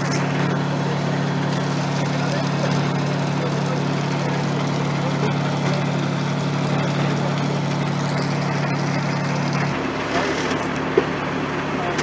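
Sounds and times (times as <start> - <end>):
fire truck engine humming: 0.0 - 12.0.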